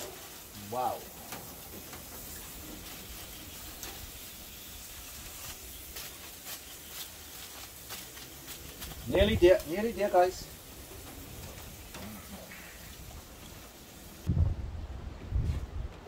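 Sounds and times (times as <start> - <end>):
fish sizzling on grill: 0.0 - 14.3
small crackles: 0.0 - 14.3.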